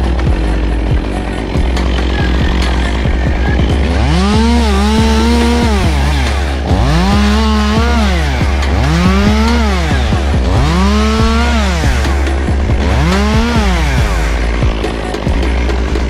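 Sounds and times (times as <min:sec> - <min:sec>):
chainsaw engine revving: 0:00.0 - 0:16.0
steady low drone: 0:00.0 - 0:16.0.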